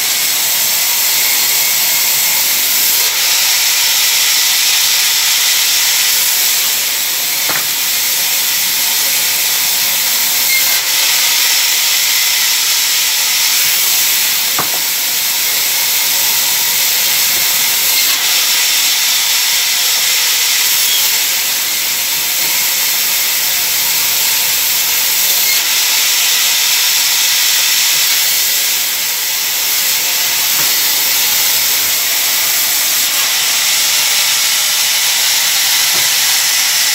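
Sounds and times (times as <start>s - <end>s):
band saw cutting wood: 0.0s - 36.9s.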